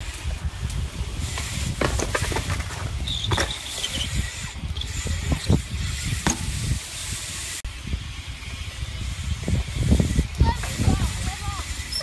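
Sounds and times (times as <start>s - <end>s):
bike landing and rolling on concrete: 0.0s - 12.0s
wind buffeting microphone: 0.0s - 12.0s.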